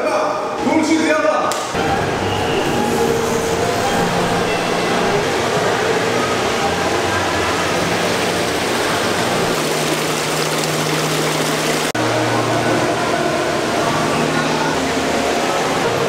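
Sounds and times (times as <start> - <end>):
indoor fountain water rushing: 1.5 - 16.0.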